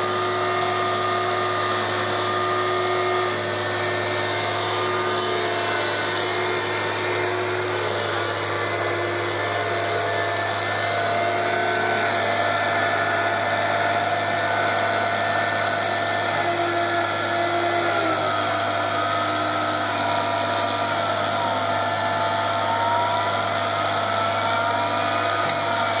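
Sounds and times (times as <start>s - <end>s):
mill grinding corn stalks: 0.0s - 26.0s
tractor engine running: 0.0s - 26.0s.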